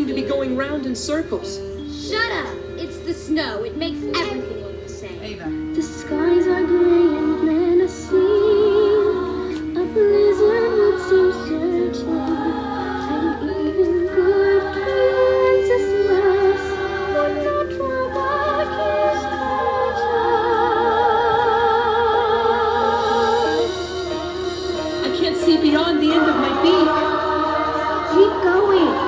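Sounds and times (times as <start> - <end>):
musical accompaniment: 0.0 - 29.0
person singing with vibrato: 5.7 - 29.0.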